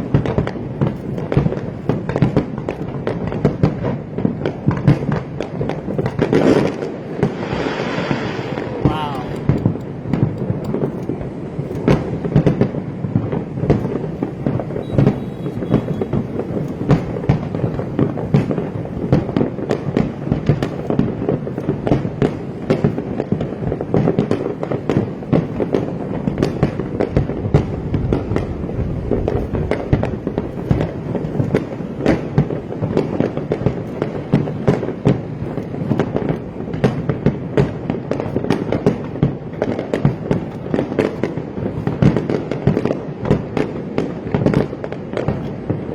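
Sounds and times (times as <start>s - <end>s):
fireworks bursts and crackles: 0.0s - 45.9s.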